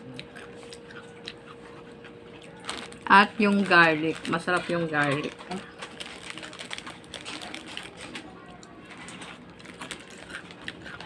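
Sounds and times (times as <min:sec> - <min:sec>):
chips being chewed: 0:00.0 - 0:11.0.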